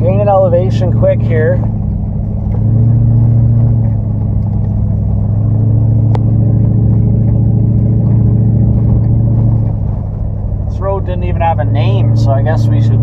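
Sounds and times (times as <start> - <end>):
truck engine pulling uphill: 0.0 - 13.0.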